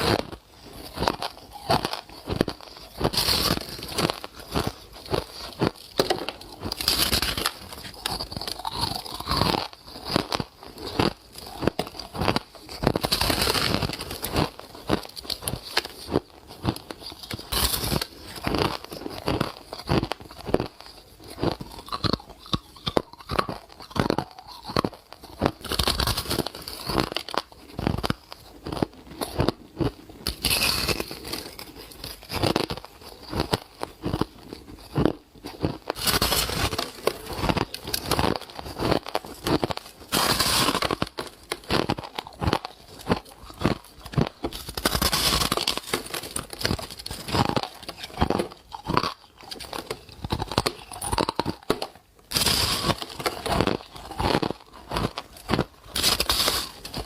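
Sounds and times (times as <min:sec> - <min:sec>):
chewing ice crunches: 0:00.0 - 0:57.0.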